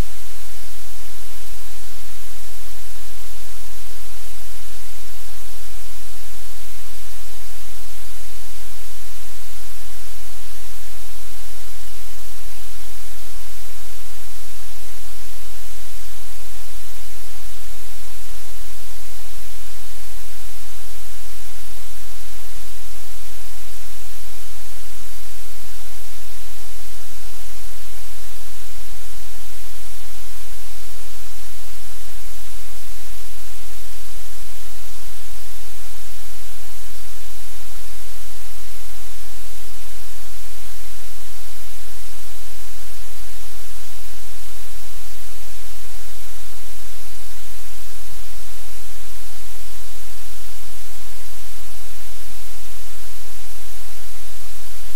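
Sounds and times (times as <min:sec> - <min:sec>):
static hiss: 0:00.0 - 0:54.9.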